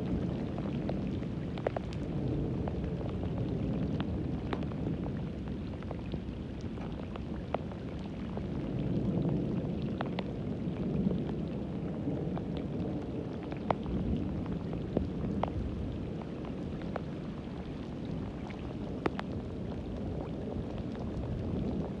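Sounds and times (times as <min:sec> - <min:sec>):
heavy rain on wet ground: 0:00.0 - 0:22.0.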